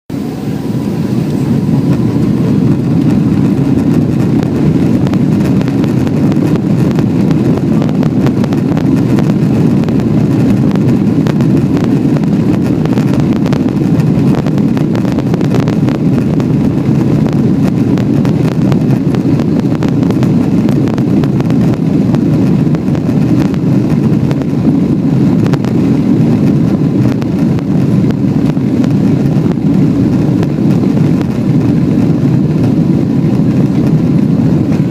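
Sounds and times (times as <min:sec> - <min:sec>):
jet engines at takeoff: 0:00.1 - 0:34.9.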